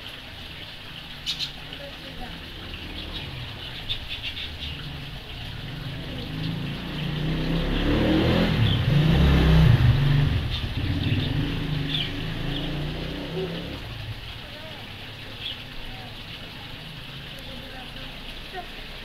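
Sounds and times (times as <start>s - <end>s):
vehicle engine rumble passing: 0.5s - 19.0s.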